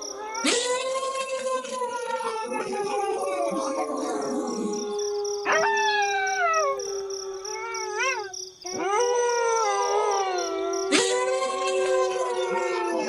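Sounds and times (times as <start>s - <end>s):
wolves howling in chorus: 0.0s - 13.0s.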